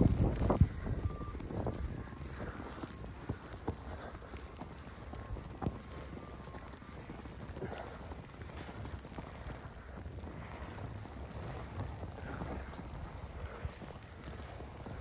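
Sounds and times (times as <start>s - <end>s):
steady hiss of falling snow: 0.0s - 15.0s
wind rumbling on microphone: 0.0s - 15.0s.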